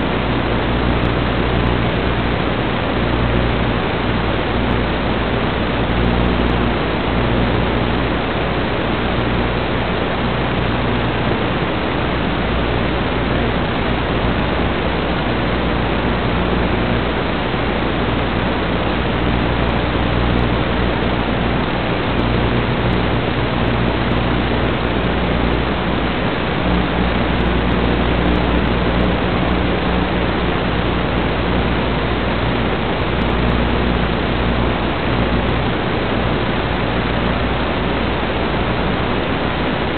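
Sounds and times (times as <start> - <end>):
low hum: 0.0 - 39.9
static hiss: 0.0 - 39.9.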